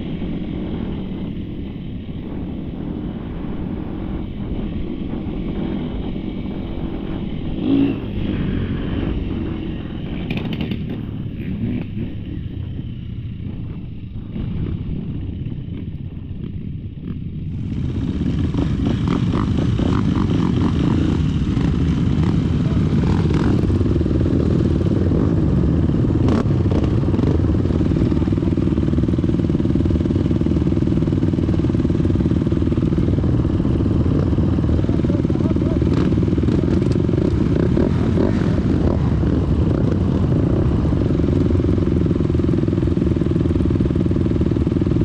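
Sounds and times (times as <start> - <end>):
dirt bike engine running: 0.0 - 45.0.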